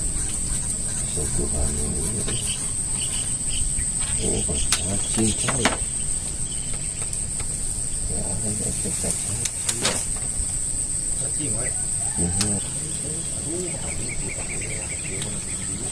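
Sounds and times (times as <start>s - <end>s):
crickets chirping: 0.0s - 15.9s.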